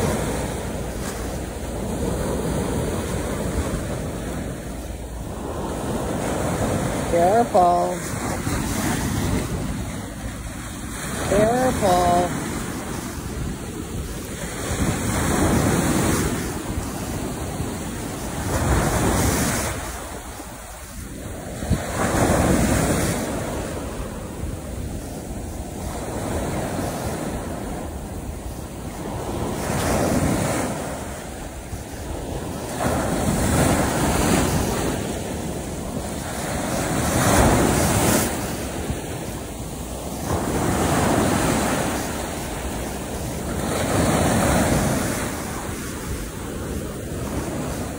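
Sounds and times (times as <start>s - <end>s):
ocean waves crashing on beach: 0.0s - 47.9s.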